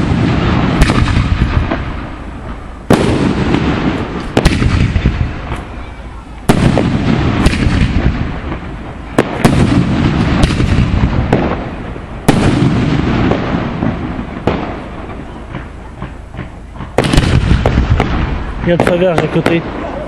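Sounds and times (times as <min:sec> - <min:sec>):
firework bangs: 0:00.0 - 0:20.0
firework crackling and rumble: 0:00.0 - 0:20.0.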